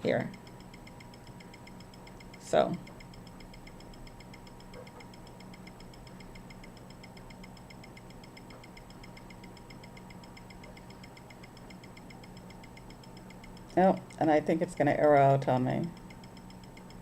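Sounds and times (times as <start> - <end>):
low steady hum: 0.0 - 17.0
rapid ticking: 0.0 - 17.0.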